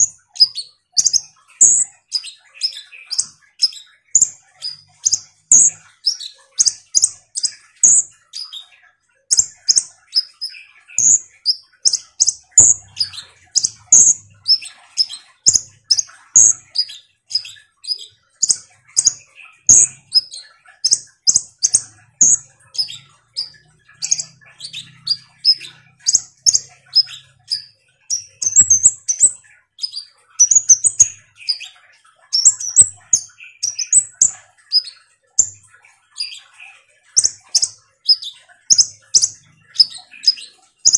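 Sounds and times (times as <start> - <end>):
sunbird singing high chirps: 0.0 - 40.9.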